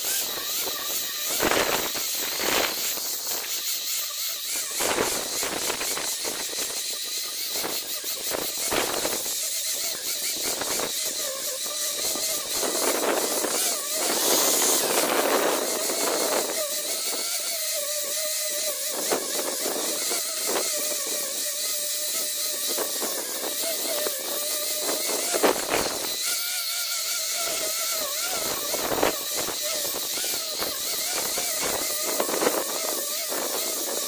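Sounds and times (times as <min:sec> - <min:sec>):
angle grinder sanding wood: 0:00.0 - 0:34.0.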